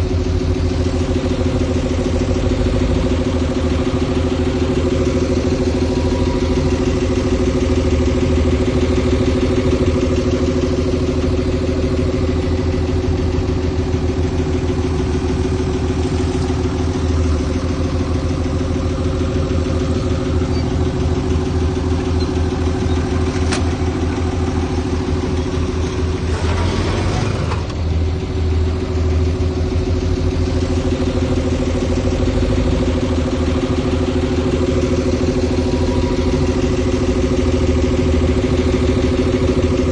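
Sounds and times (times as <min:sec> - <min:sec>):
large diesel engine running: 0:00.0 - 0:39.9.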